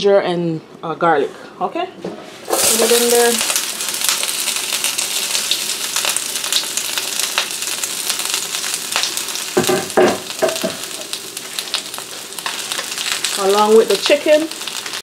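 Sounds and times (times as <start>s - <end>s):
vegetables sizzling in oil: 2.4s - 15.0s.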